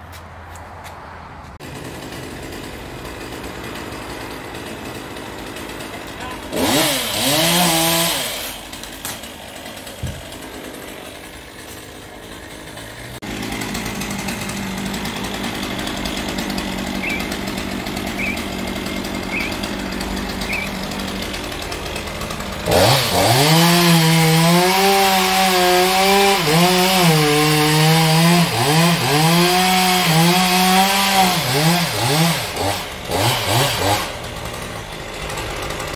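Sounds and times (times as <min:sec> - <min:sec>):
chainsaw revving and cutting wood: 0:01.5 - 0:35.9.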